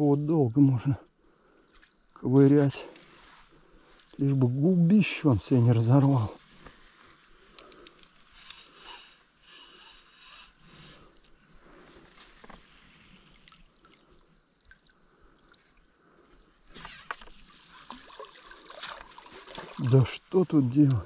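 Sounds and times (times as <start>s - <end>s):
faint water splashing and trickling: 0.4s - 8.4s, 11.0s - 21.0s.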